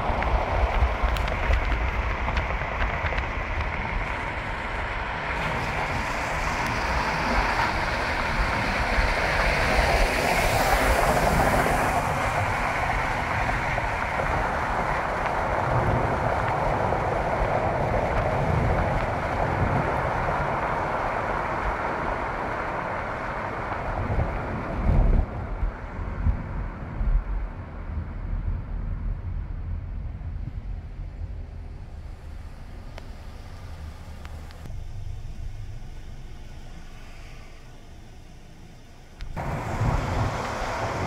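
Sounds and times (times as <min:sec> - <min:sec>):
car road and wind noise: 0:00.0 - 0:41.0
freight train rumbling on track: 0:00.0 - 0:41.0.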